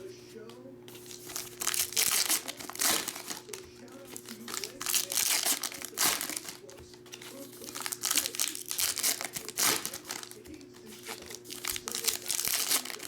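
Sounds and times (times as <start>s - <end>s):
cards being handled: 0.0s - 13.0s
foil wrappers crinkling: 0.0s - 13.0s.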